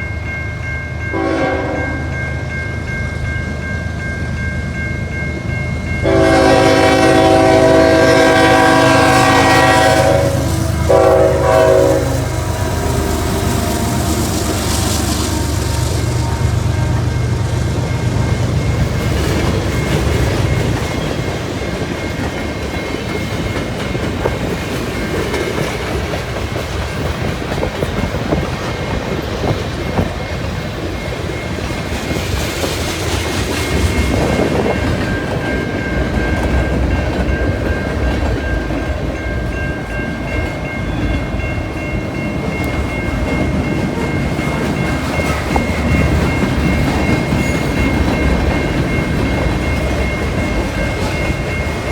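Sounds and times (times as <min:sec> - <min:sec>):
freight train wheels clicking: 0:06.0 - 0:51.9.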